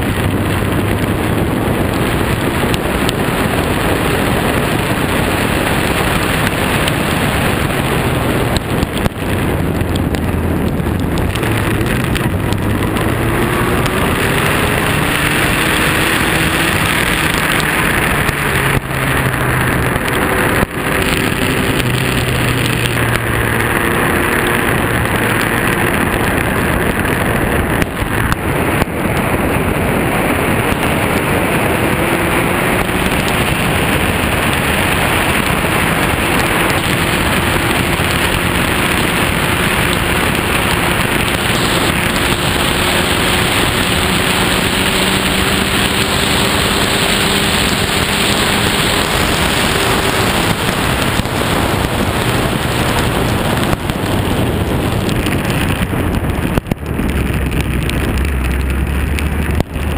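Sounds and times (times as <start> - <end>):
race car engine: 0.0 - 59.9
rain and tyre spray: 0.0 - 59.9
wind rush on microphone: 0.0 - 59.9.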